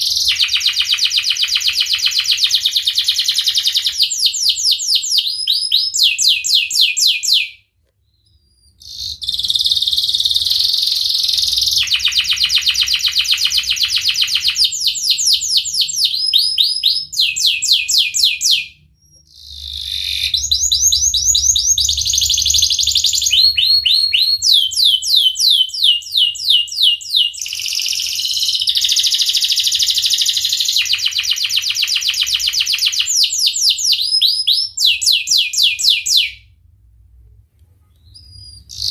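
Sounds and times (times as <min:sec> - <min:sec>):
canary singing trills: 0:00.0 - 0:36.4, 0:38.0 - 0:38.9.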